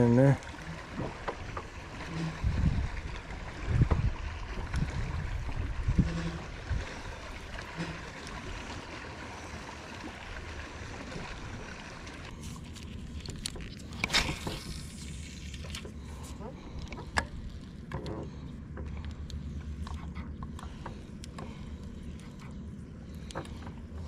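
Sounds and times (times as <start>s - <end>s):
low wind rumble: 0.0s - 24.0s
water lapping against boat hull: 0.0s - 24.0s.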